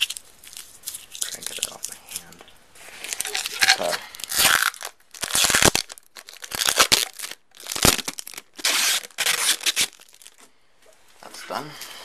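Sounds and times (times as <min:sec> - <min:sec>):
plastic film crinkling and tearing: 0:00.0 - 0:10.5.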